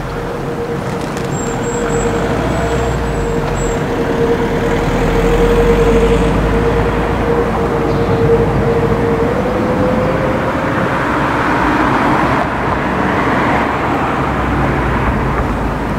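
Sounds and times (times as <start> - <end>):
jet airliner engine roar: 0.0 - 15.9.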